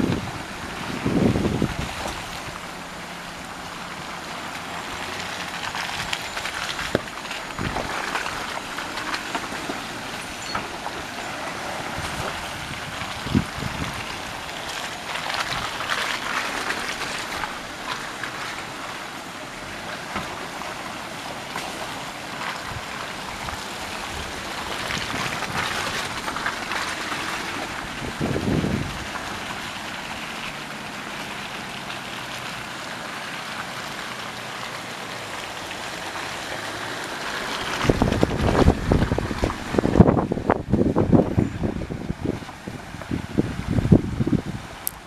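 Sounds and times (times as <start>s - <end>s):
vehicles driving over gravel: 0.0s - 45.0s
water rushing over gravel: 0.0s - 45.0s.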